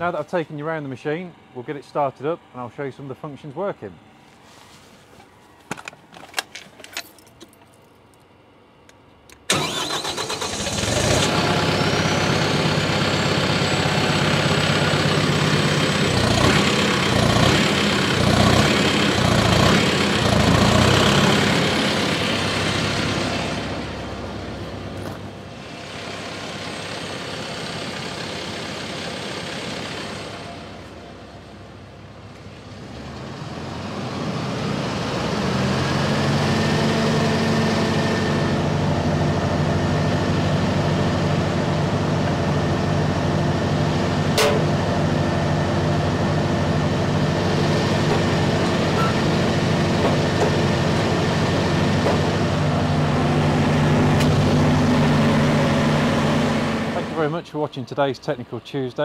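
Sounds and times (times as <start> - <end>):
diesel engine running: 9.5 - 58.9.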